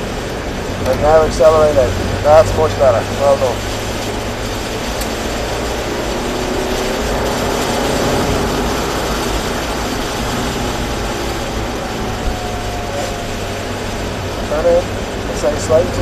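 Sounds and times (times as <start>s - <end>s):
car engine accelerating: 0.0s - 16.0s
tyres hissing on wet track: 0.0s - 16.0s.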